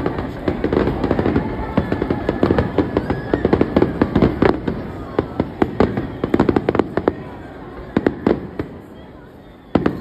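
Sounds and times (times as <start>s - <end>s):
fireworks popping and crackling: 0.0s - 10.0s.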